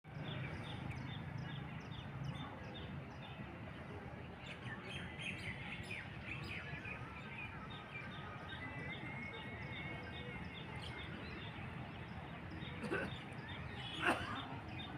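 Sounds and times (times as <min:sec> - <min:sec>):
birds chirping: 0:00.1 - 0:03.4, 0:04.4 - 0:14.9.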